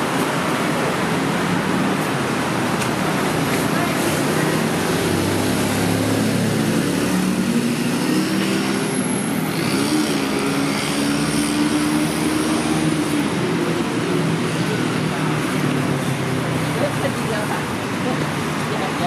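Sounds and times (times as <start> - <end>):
cars and motorbikes passing: 0.0 - 19.0.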